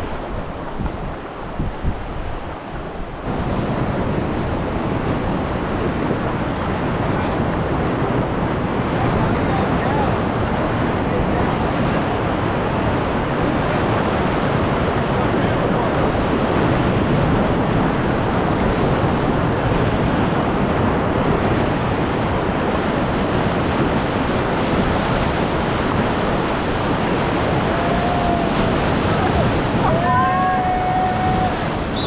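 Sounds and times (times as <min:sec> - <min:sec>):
whitewater rushing: 0:00.0 - 0:32.0.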